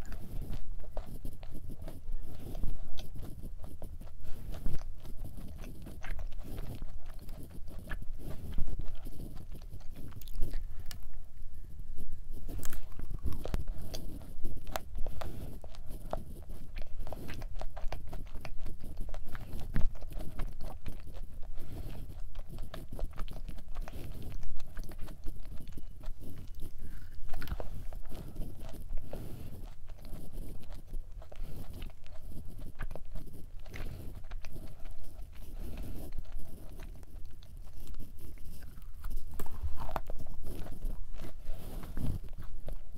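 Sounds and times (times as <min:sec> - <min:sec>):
chewing cookie with crunches: 0:00.0 - 0:42.9.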